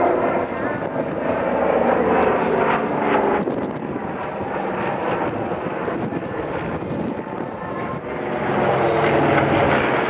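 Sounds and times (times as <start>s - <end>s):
aircraft engines: 0.0s - 10.0s.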